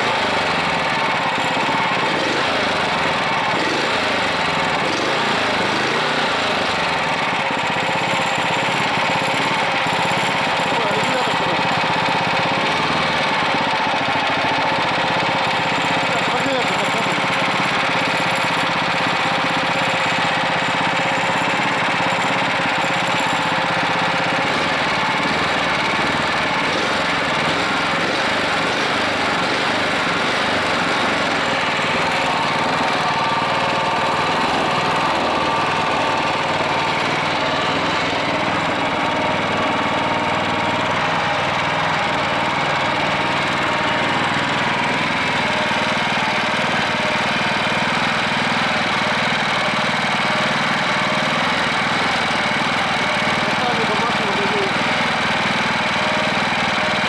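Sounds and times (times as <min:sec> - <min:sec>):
petrol engine running: 0:00.0 - 0:57.0.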